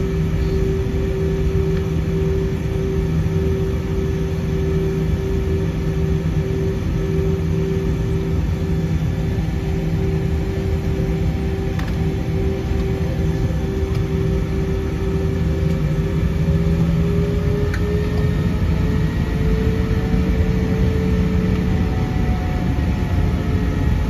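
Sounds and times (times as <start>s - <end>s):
jet engines idling in cabin: 0.0s - 24.0s.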